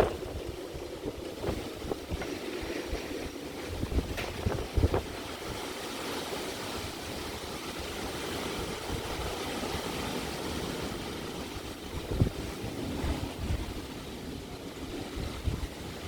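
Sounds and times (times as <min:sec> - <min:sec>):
strong wind blowing: 0:00.0 - 0:16.0
wind buffeting microphone: 0:00.0 - 0:16.0.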